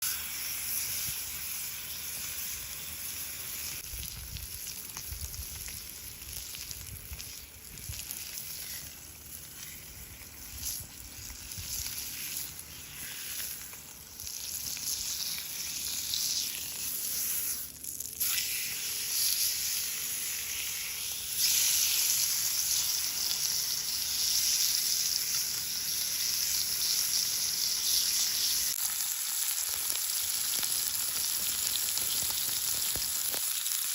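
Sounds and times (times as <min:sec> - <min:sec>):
steak sizzling on a pan: 0:00.0 - 0:33.9.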